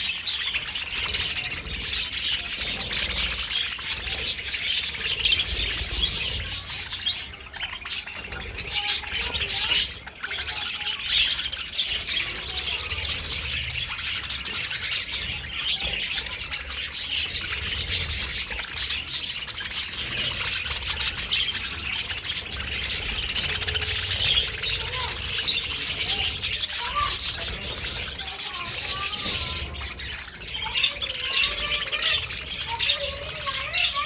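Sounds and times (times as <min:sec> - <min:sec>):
budgerigars chattering: 0:00.0 - 0:34.0.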